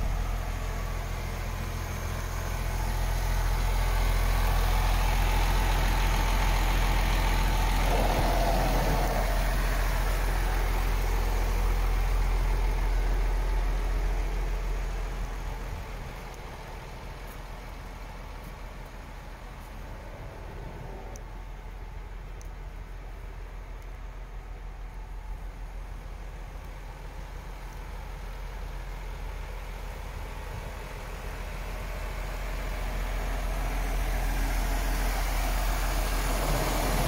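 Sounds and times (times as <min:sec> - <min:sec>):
diesel truck engine idling: 0:00.0 - 0:37.0.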